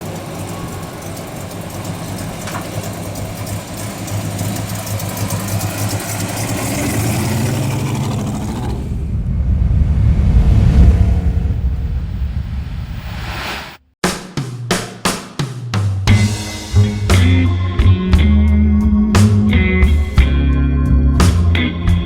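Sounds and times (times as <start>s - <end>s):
engine rumbling: 0.0s - 13.8s, 16.1s - 22.0s.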